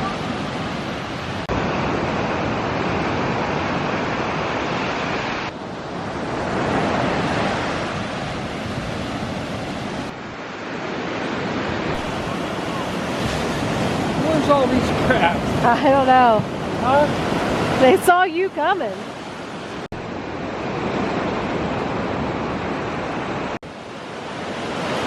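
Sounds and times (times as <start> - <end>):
ocean surf washing on beach: 0.0 - 25.0
wind on microphone: 0.0 - 25.0.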